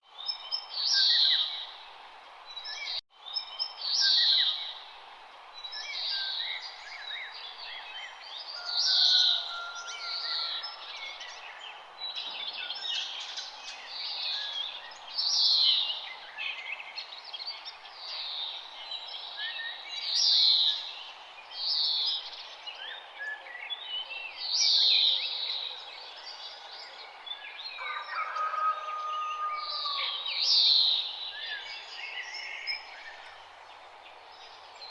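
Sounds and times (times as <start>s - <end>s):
outdoor background hiss: 0.1s - 27.7s, 29.8s - 34.9s.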